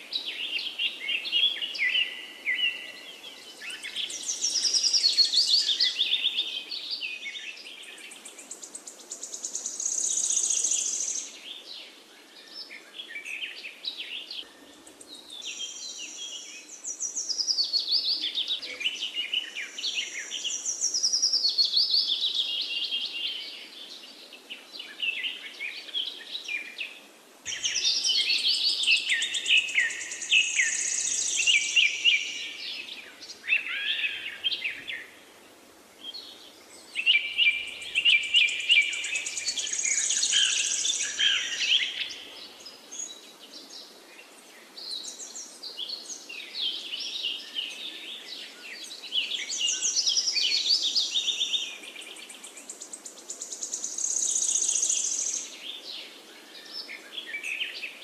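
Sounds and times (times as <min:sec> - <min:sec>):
birds chirping and trilling: 0:00.0 - 0:35.2, 0:36.0 - 0:58.0.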